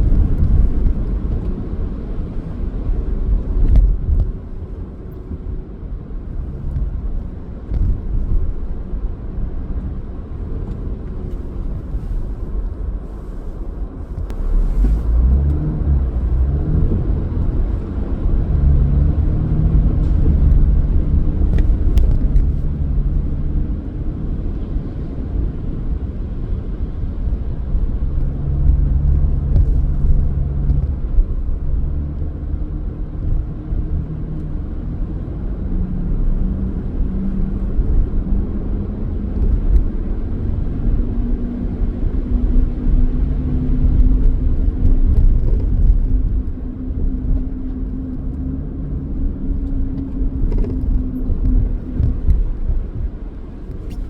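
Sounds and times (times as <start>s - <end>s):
car engine hum: 0.0s - 54.0s
road rumble: 0.0s - 54.0s.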